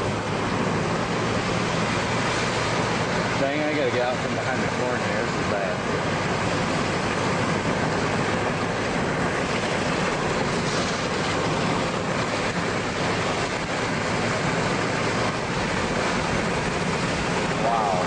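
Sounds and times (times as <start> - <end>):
car road noise: 0.0 - 18.0
strong wind roaring: 0.0 - 18.0.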